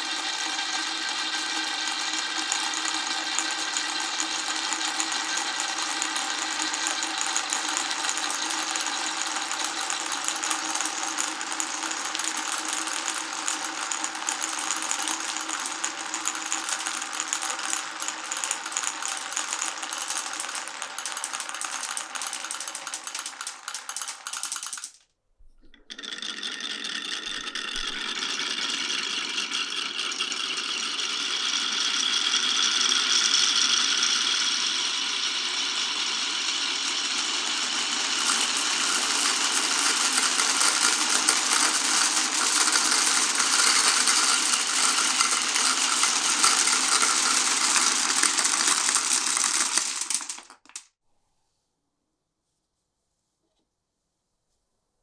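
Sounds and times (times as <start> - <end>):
marbles rolling down a marble run: 0.0 - 25.0, 25.8 - 50.8.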